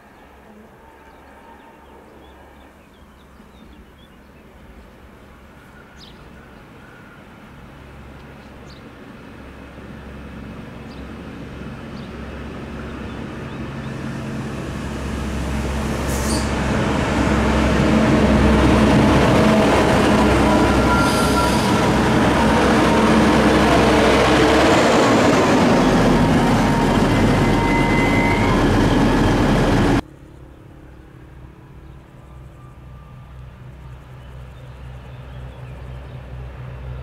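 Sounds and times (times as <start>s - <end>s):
diesel train engines droning: 0.0s - 37.0s.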